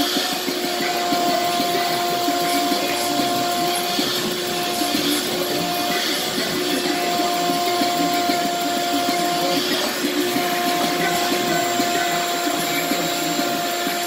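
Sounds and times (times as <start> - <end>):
shop vacuum running: 0.0 - 14.0.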